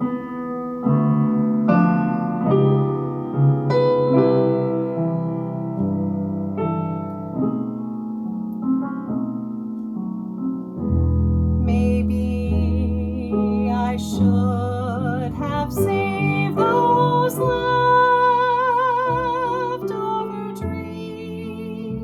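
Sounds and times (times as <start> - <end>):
piano ballad chords: 0.0 - 22.0.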